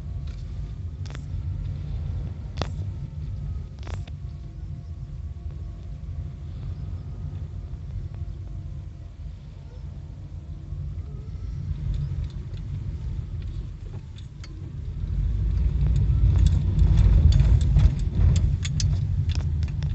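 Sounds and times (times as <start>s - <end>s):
electric train rumble: 0.0s - 19.9s.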